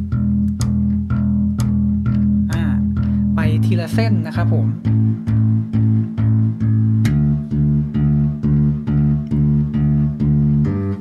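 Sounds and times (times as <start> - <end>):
electric bass plucked open strings: 0.0 - 11.0.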